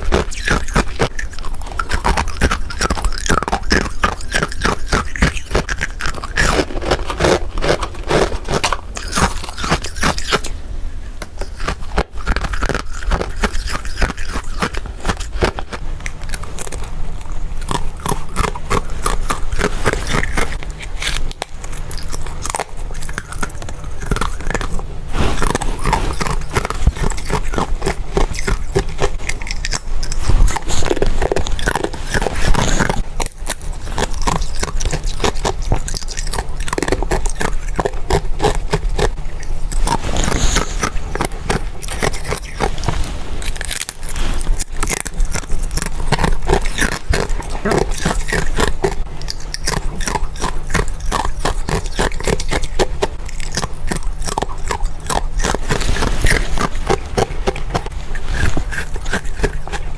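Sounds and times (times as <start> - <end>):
biting and crunching frost: 0.0 - 10.6, 11.3 - 59.9.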